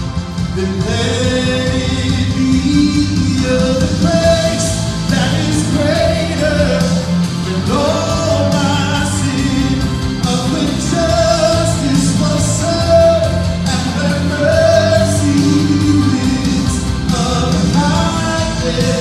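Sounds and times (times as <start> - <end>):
instrumental backing: 0.0 - 19.0
man singing into a microphone: 0.5 - 19.0.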